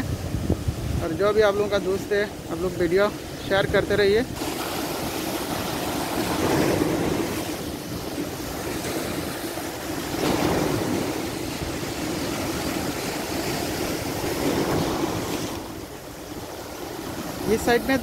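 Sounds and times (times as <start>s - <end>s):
waves breaking over rocks: 0.0s - 18.0s
wind on microphone: 0.0s - 18.0s.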